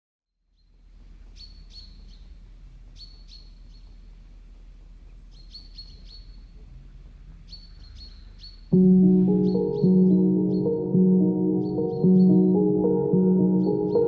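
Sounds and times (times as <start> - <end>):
small bird chirping: 0.5 - 4.2, 5.1 - 6.7, 7.4 - 14.0.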